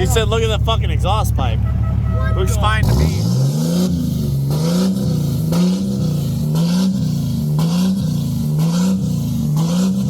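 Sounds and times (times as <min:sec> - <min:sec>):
engine revving: 0:01.6 - 0:10.0.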